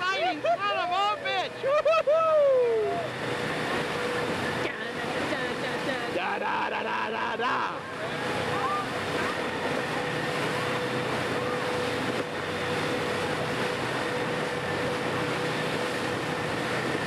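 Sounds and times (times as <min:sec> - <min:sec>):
motorboat engine drone: 0:00.0 - 0:17.0
rushing water: 0:00.0 - 0:17.0
wind: 0:00.0 - 0:17.0.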